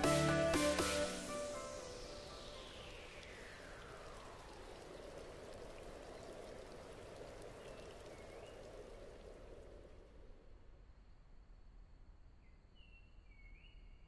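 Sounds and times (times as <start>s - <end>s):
outdoor ambience hiss: 0.0s - 14.0s.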